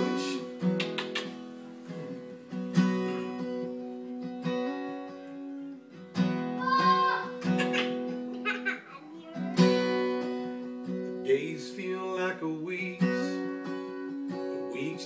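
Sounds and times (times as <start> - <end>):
acoustic guitar strummed slowly: 0.0 - 15.0.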